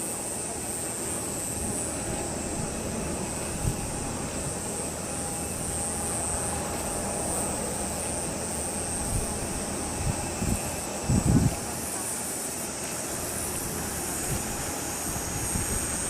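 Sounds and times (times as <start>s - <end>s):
jet engines whining and rumbling: 0.0s - 16.0s
wind buffeting microphone: 1.4s - 12.1s, 12.9s - 16.0s.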